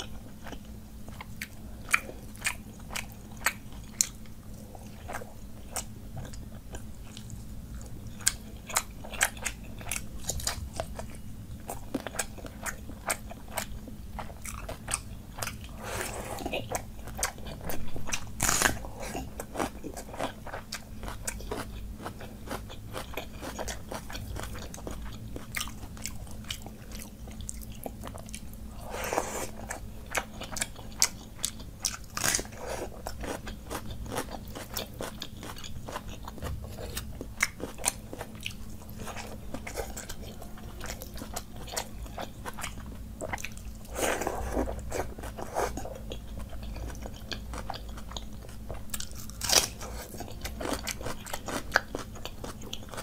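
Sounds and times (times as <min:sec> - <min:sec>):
person crunching and chewing food: 0:00.0 - 0:53.0.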